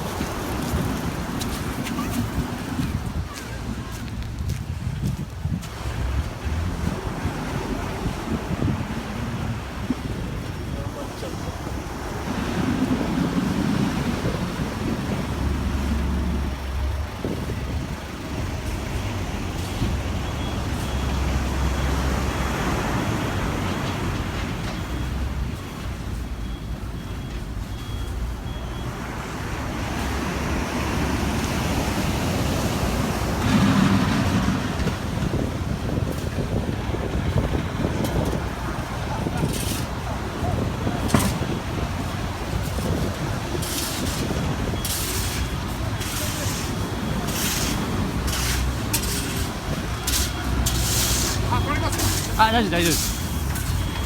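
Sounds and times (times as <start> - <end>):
surf roaring: 0.0 - 4.4, 5.6 - 27.2, 27.8 - 54.0
wind buffeting microphone: 0.0 - 26.9, 29.5 - 54.0.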